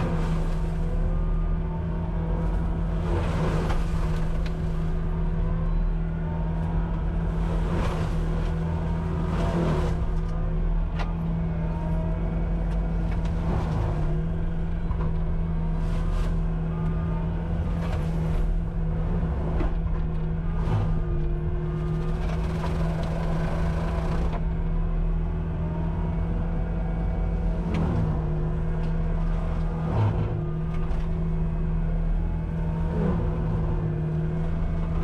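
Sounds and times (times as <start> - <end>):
low hum: 0.0 - 35.0
track loader engine running: 0.0 - 35.0.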